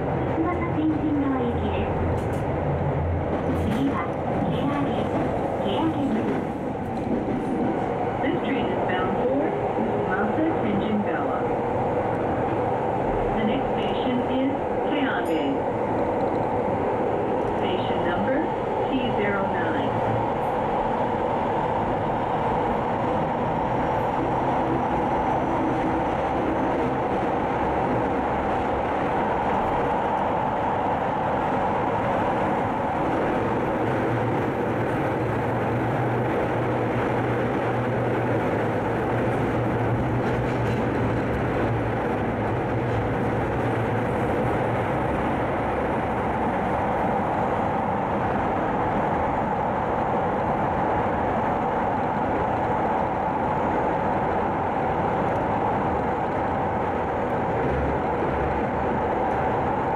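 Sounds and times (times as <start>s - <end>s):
train wheels running on rails: 0.0s - 21.3s, 22.4s - 59.9s.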